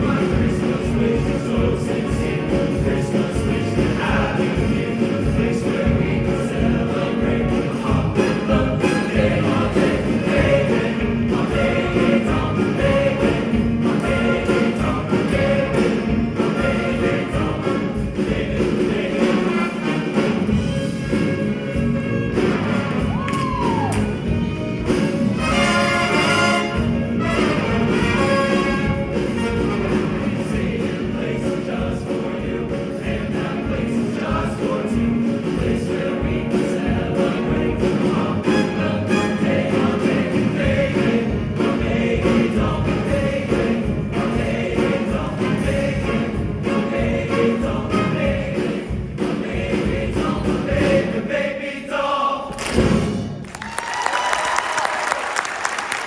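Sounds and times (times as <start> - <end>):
musical accompaniment with beat: 0.0 - 51.3
choir singing: 0.0 - 53.4.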